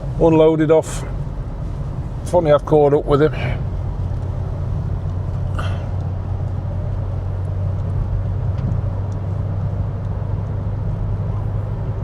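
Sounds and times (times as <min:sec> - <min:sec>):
car engine and tyres drone: 0:00.0 - 0:12.0.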